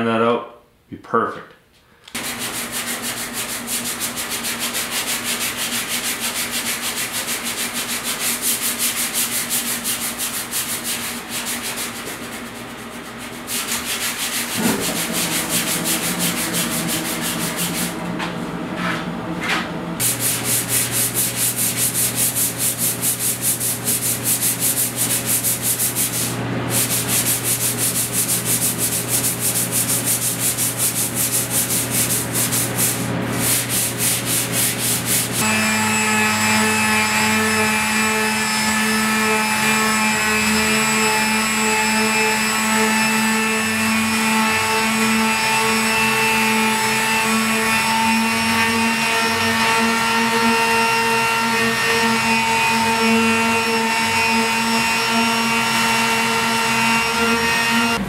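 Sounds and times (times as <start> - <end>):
sandpaper strokes back and forth: 2.2 - 58.0.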